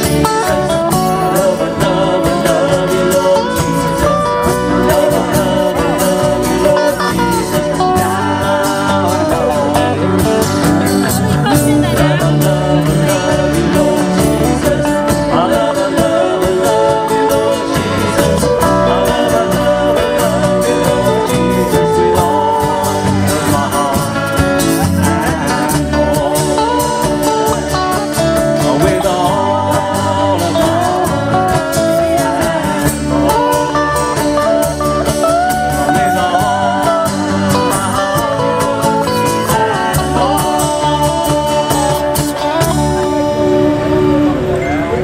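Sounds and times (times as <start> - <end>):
bass guitar: 0.0 - 45.0
cajon drumming: 0.0 - 45.0
electric guitars: 0.0 - 45.0
person singing: 0.0 - 45.0.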